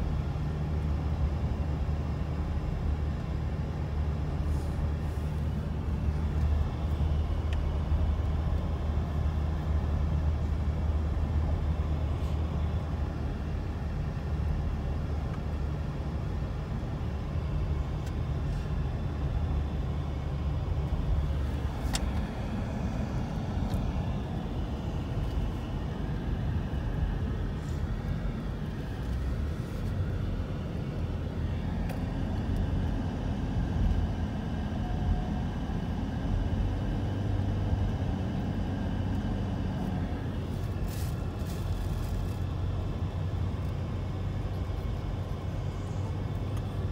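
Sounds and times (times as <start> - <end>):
road vehicle rumble: 0.0 - 46.9.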